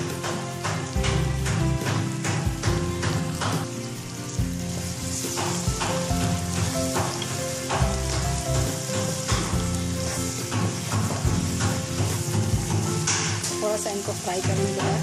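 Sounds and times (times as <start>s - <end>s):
background music with beat: 0.0s - 13.8s
vegetables sizzling in hot oil: 0.0s - 15.0s.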